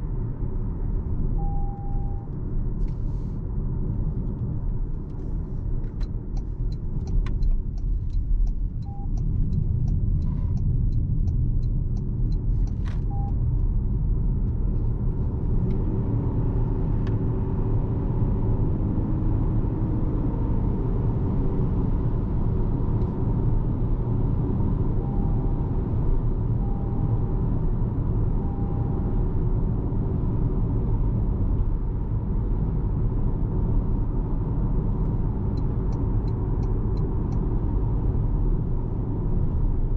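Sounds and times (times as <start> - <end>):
car road and tyre rumble: 0.0 - 39.9.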